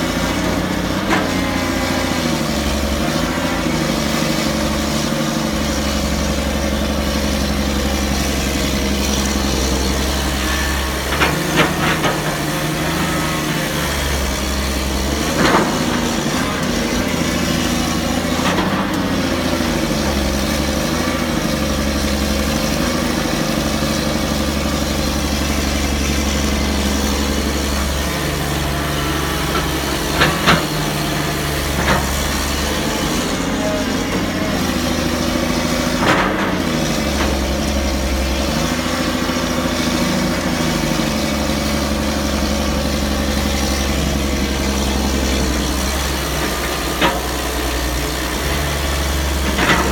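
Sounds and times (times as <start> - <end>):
excavator diesel engine: 0.0 - 49.9.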